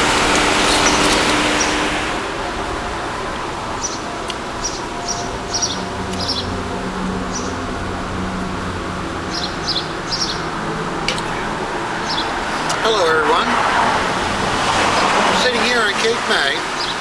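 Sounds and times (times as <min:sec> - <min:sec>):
low hum: 0:00.0 - 0:15.5
outdoor background noise: 0:00.0 - 0:17.0
small birds chirping: 0:00.0 - 0:17.0.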